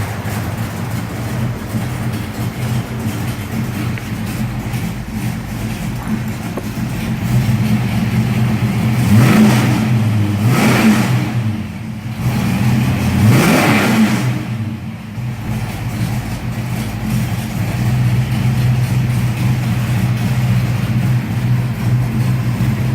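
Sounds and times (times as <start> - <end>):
car engine idling and revving: 0.0 - 22.9.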